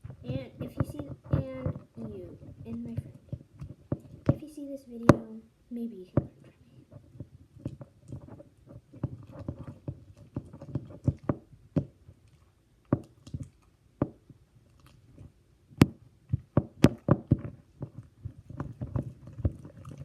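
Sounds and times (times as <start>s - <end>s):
slime kneaded with sticky pops: 0.0s - 5.4s, 6.0s - 20.0s.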